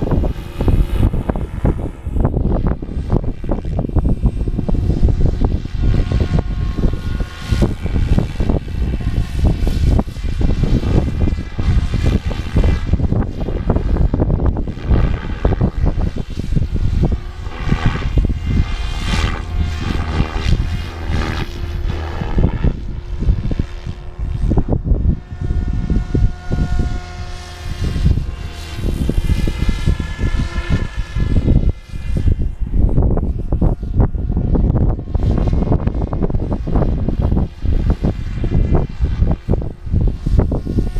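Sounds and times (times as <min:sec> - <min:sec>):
rc helicopter rotor whine: 0:00.0 - 0:40.9
wind buffeting microphone: 0:00.0 - 0:40.9.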